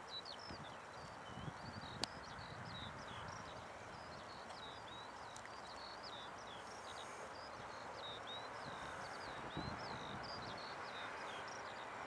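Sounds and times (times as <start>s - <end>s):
open-air background hiss: 0.0s - 12.0s.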